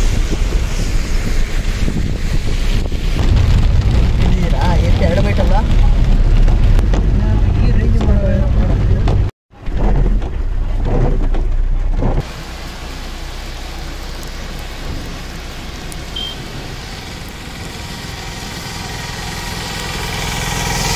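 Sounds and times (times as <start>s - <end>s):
heavy rain on road: 0.0s - 8.5s, 12.2s - 20.9s
low rumble: 0.0s - 20.9s.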